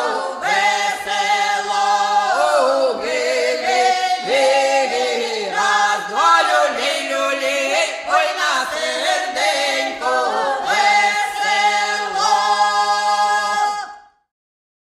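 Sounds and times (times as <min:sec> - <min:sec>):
group of voices singing: 0:00.0 - 0:14.2.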